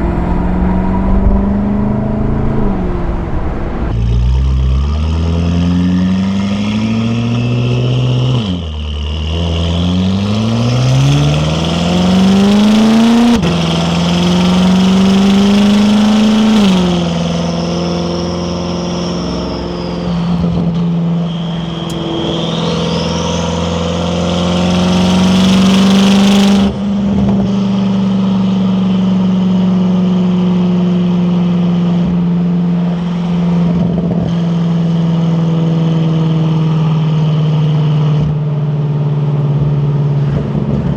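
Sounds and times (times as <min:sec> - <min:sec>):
car engine accelerating hard: 0:00.0 - 0:40.9.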